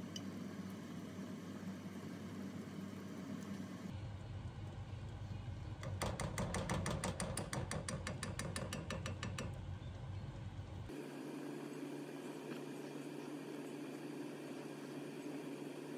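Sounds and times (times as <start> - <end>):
low steady hum: 0.0 - 6.1, 9.1 - 15.9.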